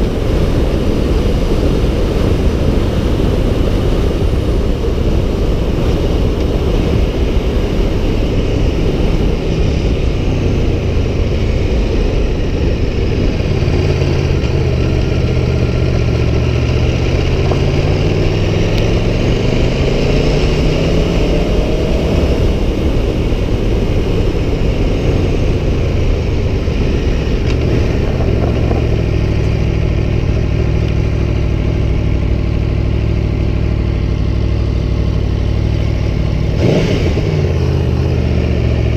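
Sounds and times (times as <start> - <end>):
motorcycle engine accelerating: 0.0 - 38.9
steady rushing noise: 0.0 - 38.9.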